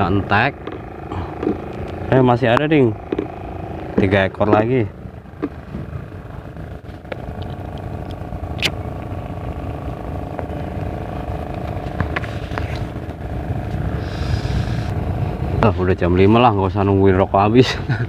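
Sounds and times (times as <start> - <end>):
motor engine humming: 0.0 - 18.0.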